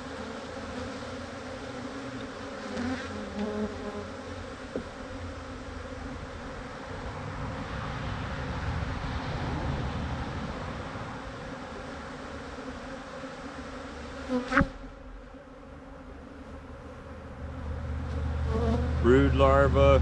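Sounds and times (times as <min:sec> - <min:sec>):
honeybees buzzing: 0:00.0 - 0:19.6.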